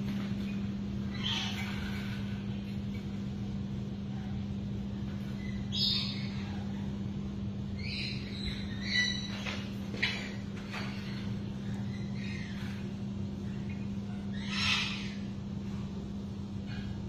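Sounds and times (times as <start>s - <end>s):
lories squawking: 0.0s - 17.0s
steady low hum: 0.0s - 17.0s.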